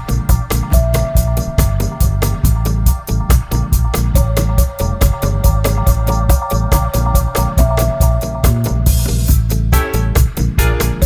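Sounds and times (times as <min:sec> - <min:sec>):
deep bass: 0:00.0 - 0:11.0
dub electronic music: 0:00.0 - 0:11.0
held keyboard notes: 0:00.0 - 0:11.0
quick high percussion strikes: 0:00.6 - 0:10.0.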